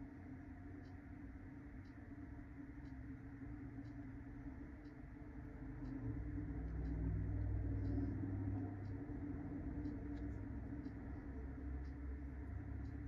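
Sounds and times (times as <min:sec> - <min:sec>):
low background hum: 0:00.0 - 0:13.0
mechanical pencil light ticks: 0:00.0 - 0:13.0.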